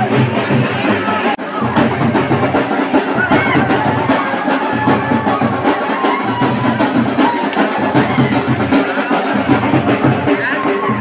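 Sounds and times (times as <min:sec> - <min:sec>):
loud music with drums: 0:00.0 - 0:11.0.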